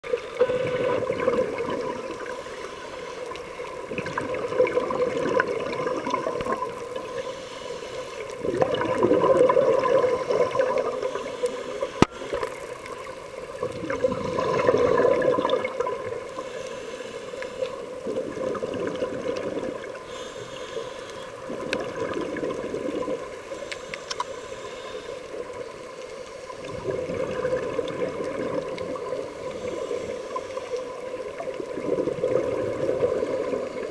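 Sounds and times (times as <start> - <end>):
exhaled bubbles gurgling underwater: 0.0 - 33.9.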